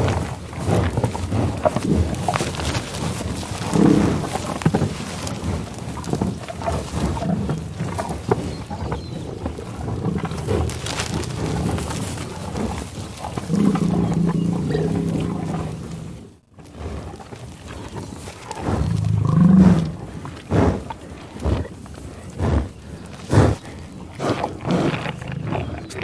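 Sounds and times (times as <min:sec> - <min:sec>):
snuffling and chewing: 0:00.0 - 0:26.0
bison growling: 0:01.7 - 0:05.0, 0:05.6 - 0:26.0.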